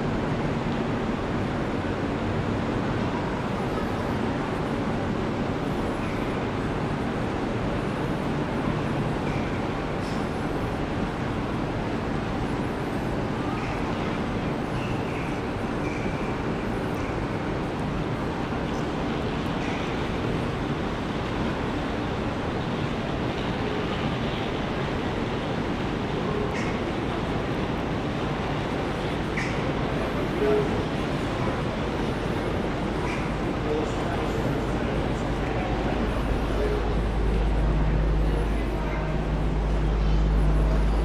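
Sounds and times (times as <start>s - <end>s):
rumbling station ambience: 0.0s - 41.0s
faint distant voices: 1.7s - 41.0s.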